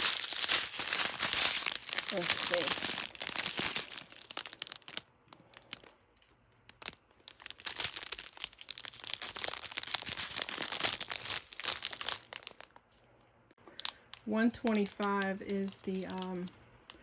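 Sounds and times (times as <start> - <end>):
plastic bags crinkling: 0.0 - 13.0, 13.6 - 16.6.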